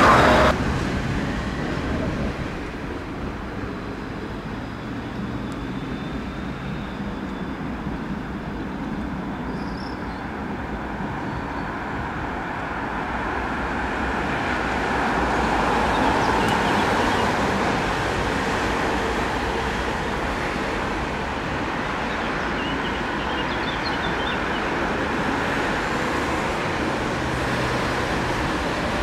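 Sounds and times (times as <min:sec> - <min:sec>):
passing vehicle traffic: 0:00.0 - 0:29.0.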